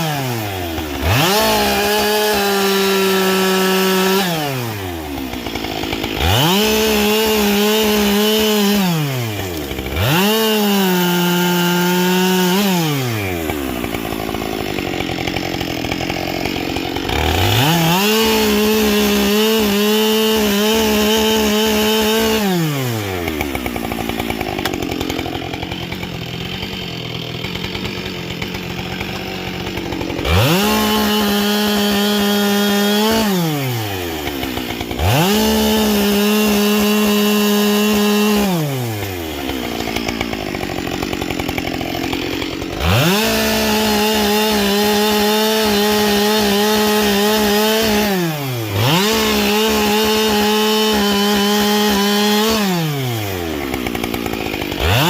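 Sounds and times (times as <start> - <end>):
chainsaw revving and idling: 0.0 - 55.0.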